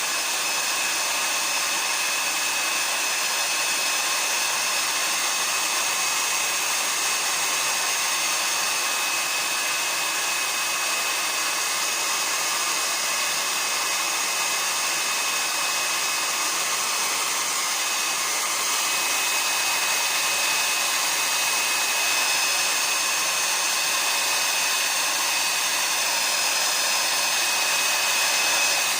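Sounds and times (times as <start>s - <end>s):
hair dryer running: 0.0s - 28.9s.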